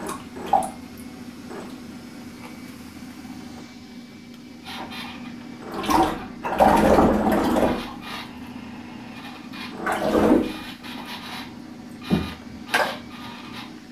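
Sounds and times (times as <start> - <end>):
boat propeller churning water: 0.0 - 3.5, 4.6 - 13.9
steady low hum: 0.0 - 13.9.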